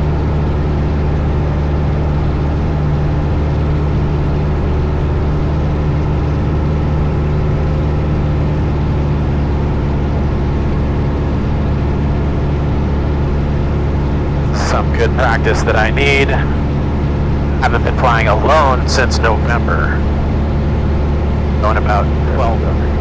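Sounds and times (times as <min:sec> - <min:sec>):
small plane cabin engine drone: 0:00.0 - 0:23.0.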